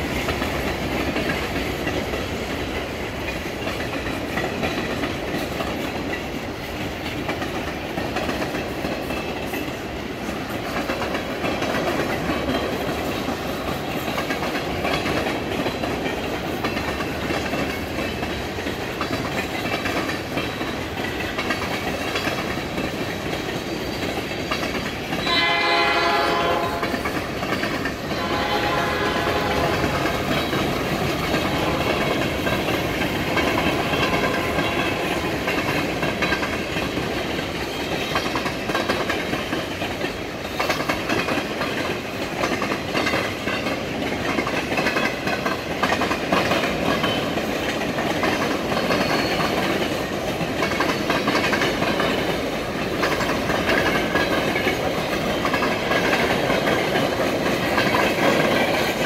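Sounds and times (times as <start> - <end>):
freight train rumbling and rattling: 0.0 - 59.0.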